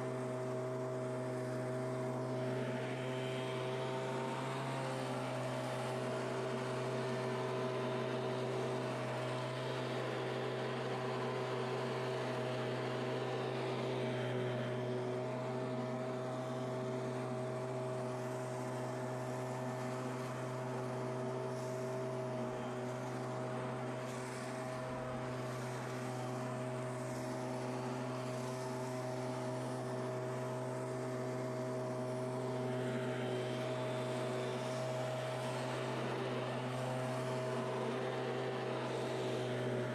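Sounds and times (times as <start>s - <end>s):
leaf blower engine drone: 0.0s - 39.9s.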